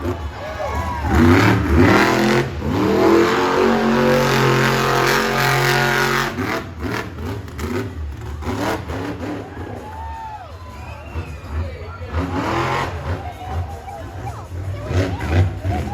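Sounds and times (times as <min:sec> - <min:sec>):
monster truck engine revving: 0:00.0 - 0:15.9.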